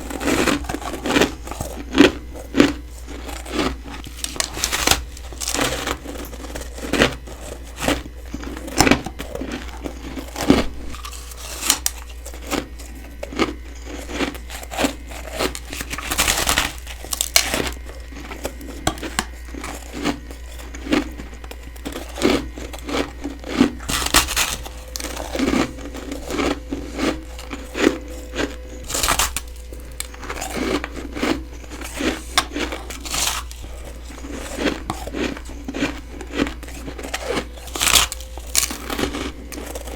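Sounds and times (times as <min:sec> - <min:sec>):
crunchy biting into frost: 0:00.0 - 0:39.9.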